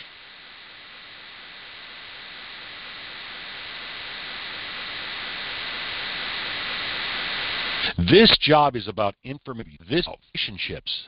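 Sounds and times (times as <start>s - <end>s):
recording hiss: 0.0s - 11.0s.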